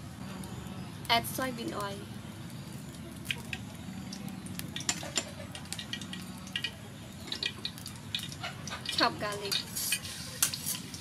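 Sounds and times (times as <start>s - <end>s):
oil ticking and crackling: 0.0s - 11.0s.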